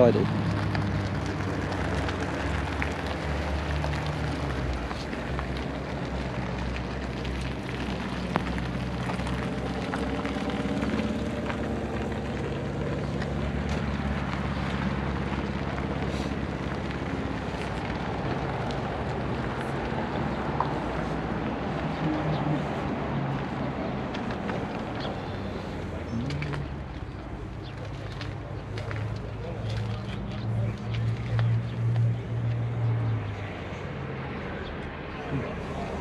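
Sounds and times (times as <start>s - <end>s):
vehicle engine idling: 0.0s - 33.8s
outdoor background noise: 0.0s - 36.0s.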